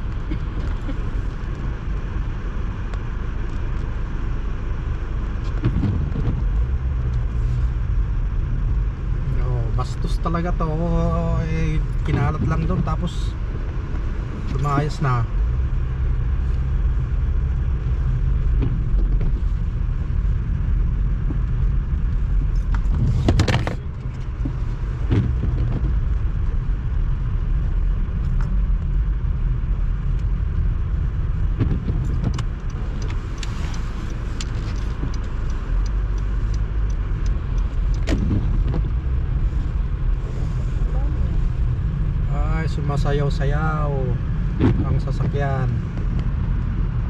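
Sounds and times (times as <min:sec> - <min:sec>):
engine and tyres rumbling: 0:00.0 - 0:47.0.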